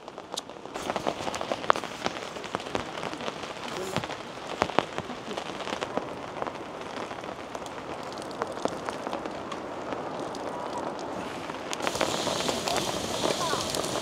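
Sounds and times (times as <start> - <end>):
raindrops tapping close by: 0.0 - 14.0
steady rain falling: 0.0 - 14.0.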